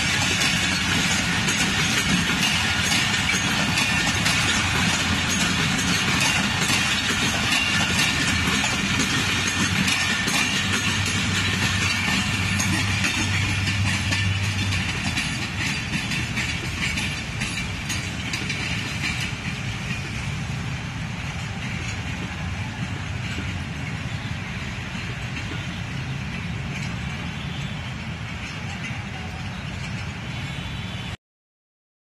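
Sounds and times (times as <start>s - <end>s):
train coaches rolling on rails: 0.0s - 31.2s
wheels clicking over rail joints: 0.0s - 31.2s.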